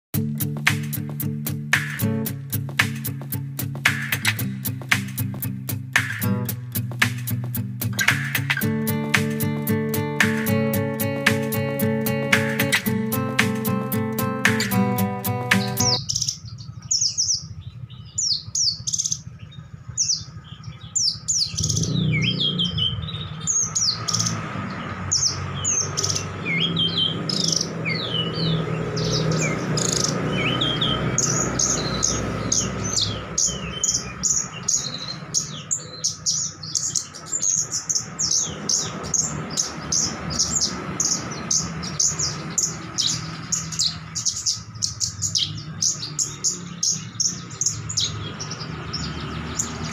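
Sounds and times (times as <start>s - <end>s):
birds chirping and tweeting: 0.2s - 49.9s.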